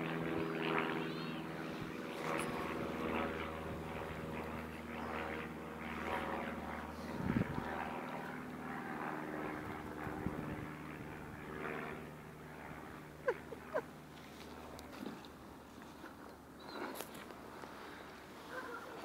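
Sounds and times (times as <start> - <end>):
steady engine drone: 0.0 - 19.0.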